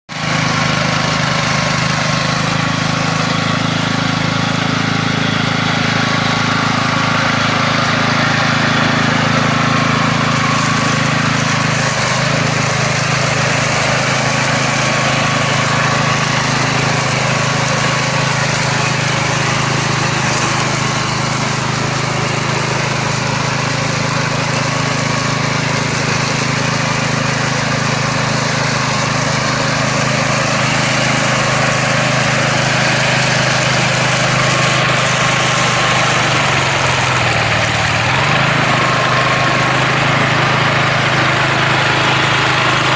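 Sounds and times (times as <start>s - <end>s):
string trimmer engine with whine: 0.1s - 42.9s.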